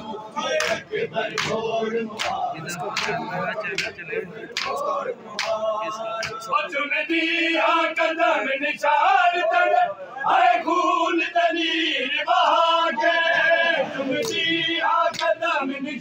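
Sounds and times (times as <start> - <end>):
men chanting a lament: 0.0 - 16.0.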